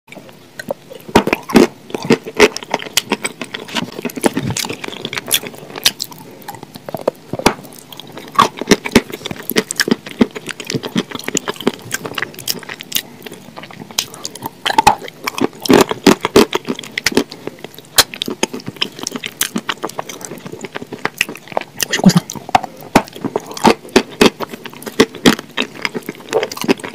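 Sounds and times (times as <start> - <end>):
person chewing food: 0.1 - 26.9.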